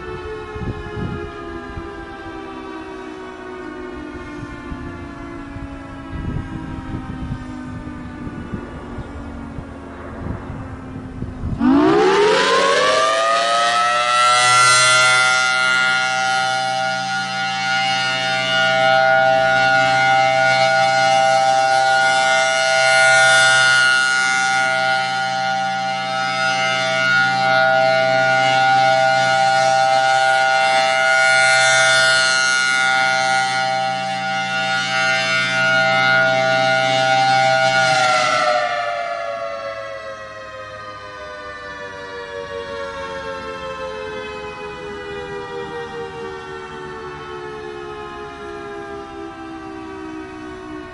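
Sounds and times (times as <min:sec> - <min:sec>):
outdoor warning siren: 0:00.0 - 0:50.9.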